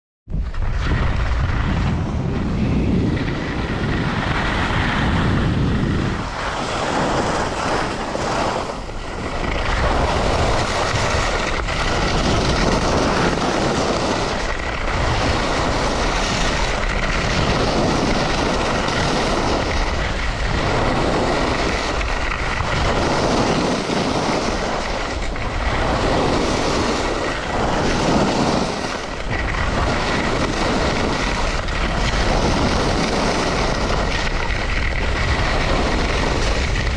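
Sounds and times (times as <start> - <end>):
wind rushing on microphone: 0.3 - 36.9
skis scraping over snow: 0.4 - 36.9.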